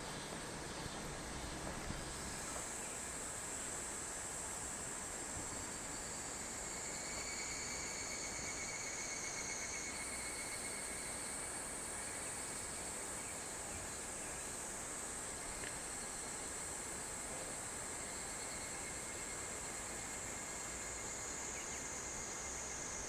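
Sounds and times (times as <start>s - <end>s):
river water hiss: 0.0s - 23.0s
cicadas singing: 2.1s - 23.0s.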